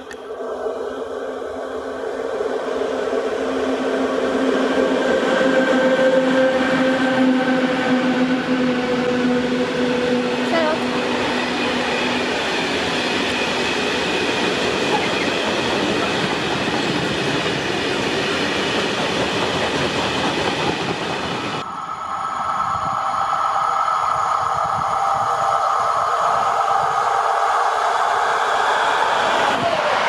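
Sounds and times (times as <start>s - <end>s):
train running past: 0.0s - 30.0s
whining train tones: 0.0s - 30.0s.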